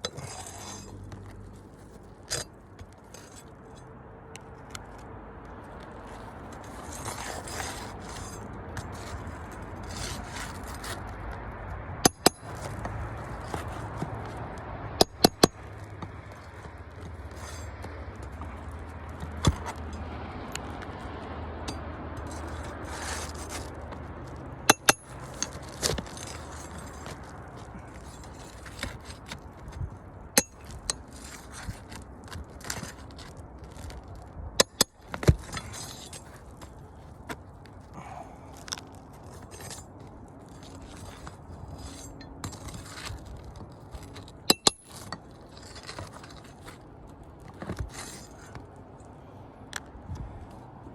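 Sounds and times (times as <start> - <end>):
hand tools cracking roof shingles: 6.1 - 21.0, 21.6 - 48.6.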